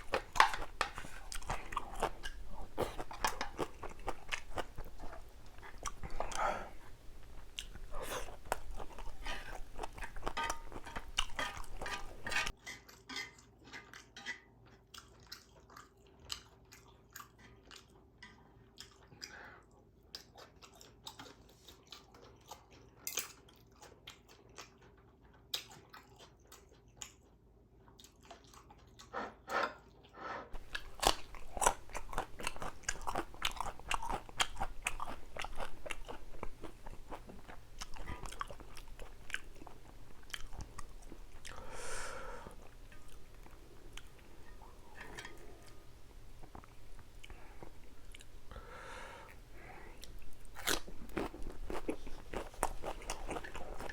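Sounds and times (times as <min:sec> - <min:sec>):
person chewing and crunching food: 0:00.0 - 0:53.9.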